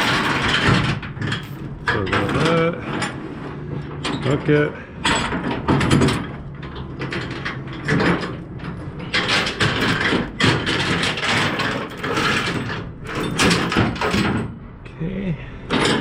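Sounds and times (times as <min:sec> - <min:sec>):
strap winch ratcheting and clanking: 0:00.0 - 0:14.5, 0:15.7 - 0:16.0.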